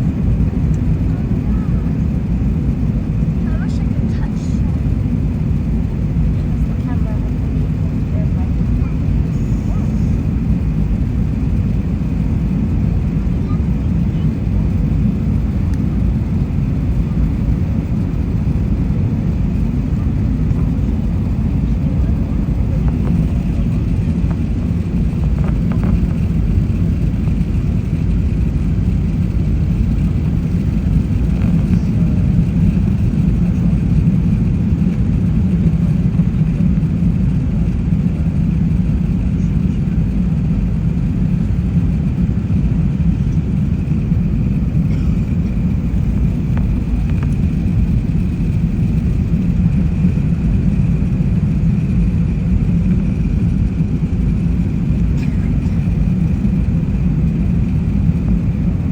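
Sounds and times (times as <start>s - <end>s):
airplane cabin engine rumble: 0.0s - 58.9s.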